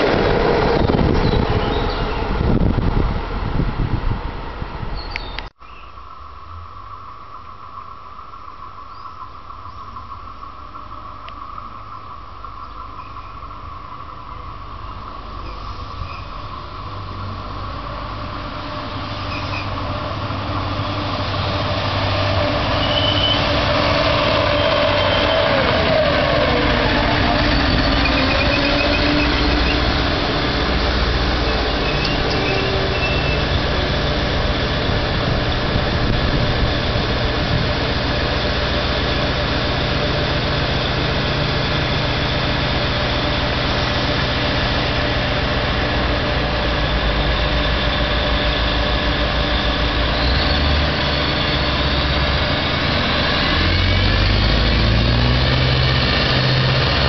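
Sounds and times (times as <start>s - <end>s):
train low running hum: 0.0s - 57.0s
falling whine: 5.9s - 57.0s.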